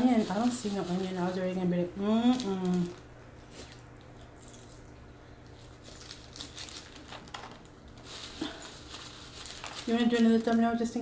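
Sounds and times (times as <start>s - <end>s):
paper wrappers rustling: 0.0s - 3.8s, 5.6s - 11.0s.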